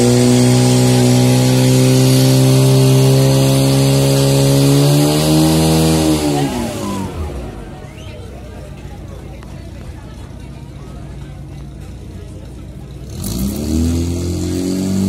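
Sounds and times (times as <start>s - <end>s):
fire pump engine running: 0.0s - 15.0s.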